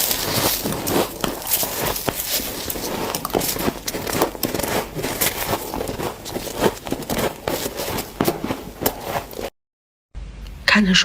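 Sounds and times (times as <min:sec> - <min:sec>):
frost crunching and squeaking: 0:00.0 - 0:09.5.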